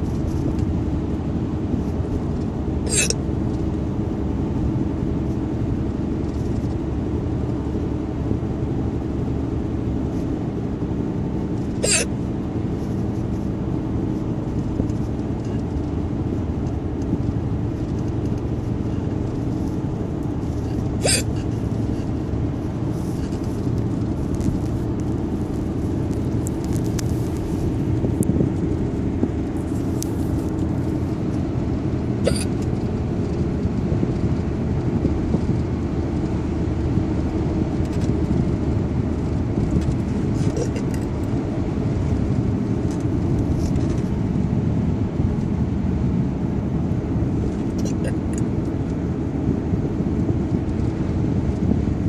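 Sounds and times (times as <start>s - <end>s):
low vehicle rumble: 0.0s - 52.0s.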